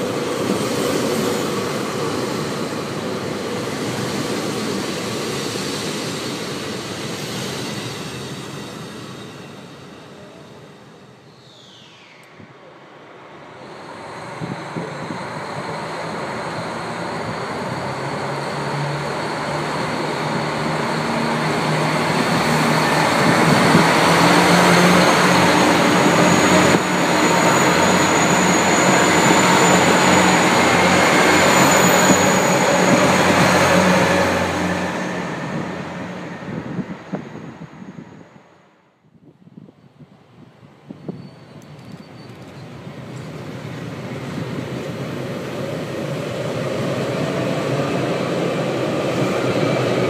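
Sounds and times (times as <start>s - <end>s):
train running past: 0.0s - 39.0s, 40.2s - 50.0s.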